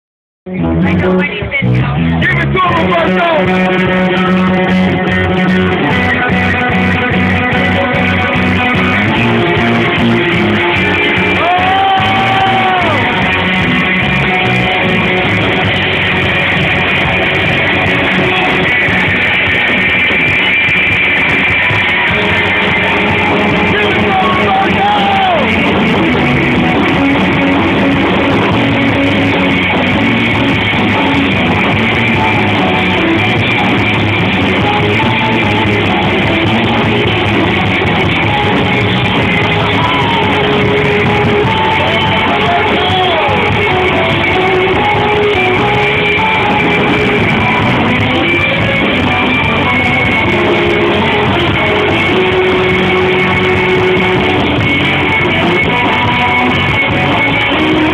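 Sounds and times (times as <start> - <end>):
live rock band playing: 0.5 - 57.9.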